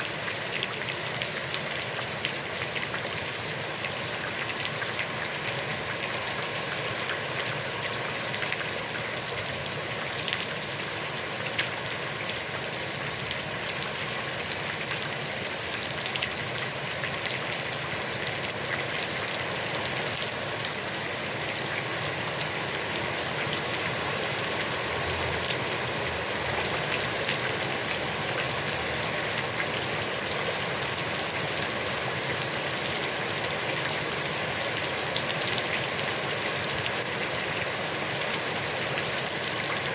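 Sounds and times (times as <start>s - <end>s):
heavy rain on a pond: 0.0s - 39.9s.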